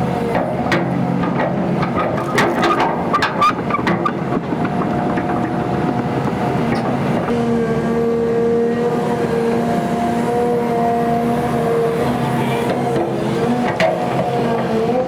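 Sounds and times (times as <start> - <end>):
excavator diesel engine whining: 0.0 - 15.0.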